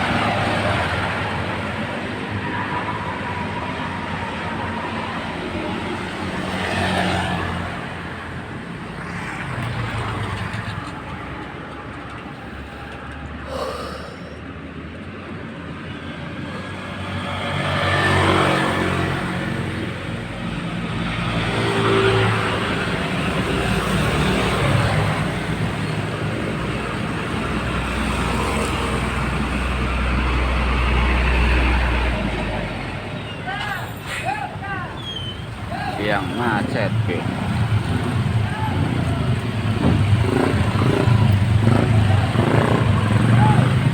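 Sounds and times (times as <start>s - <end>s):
heavy vehicles passing: 0.0s - 43.9s.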